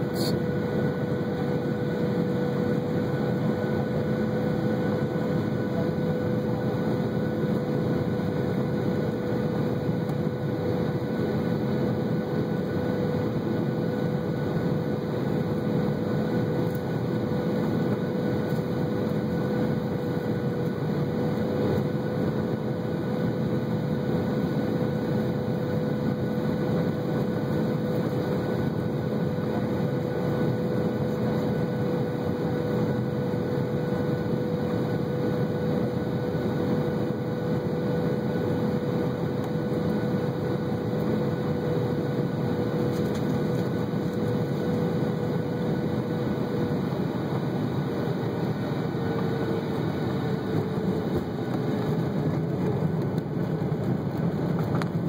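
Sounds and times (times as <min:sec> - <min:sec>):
airplane cabin air rush: 0:00.0 - 0:55.0
jet engine whine: 0:00.0 - 0:55.0.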